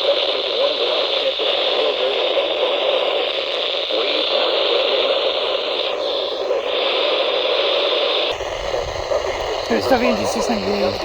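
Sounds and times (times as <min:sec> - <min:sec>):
faint broadcast voice: 0:00.0 - 0:11.0
radio static hiss: 0:00.0 - 0:11.0.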